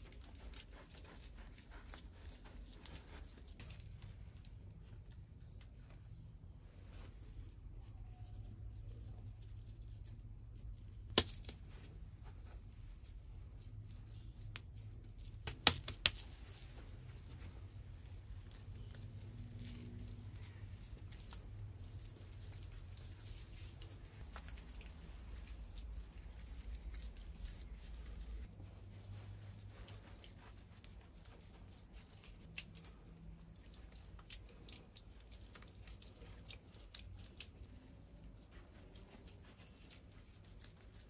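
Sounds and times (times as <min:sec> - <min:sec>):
hands rubbing and patting wet clay: 0:06.8 - 0:41.0.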